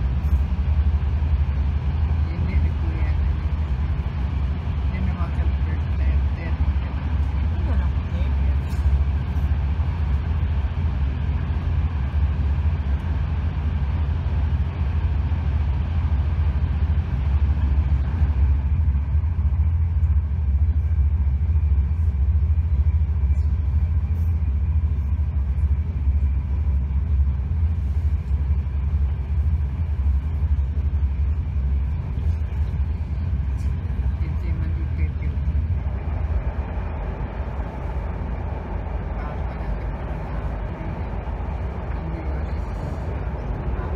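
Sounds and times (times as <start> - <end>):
moving vehicle rumble: 0.0 - 43.9.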